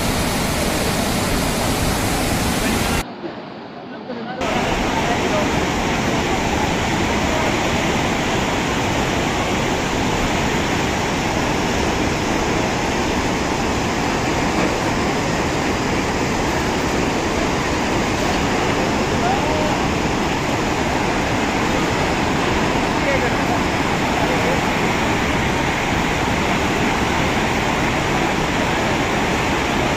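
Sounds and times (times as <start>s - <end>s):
flood torrent roaring: 0.0s - 29.9s.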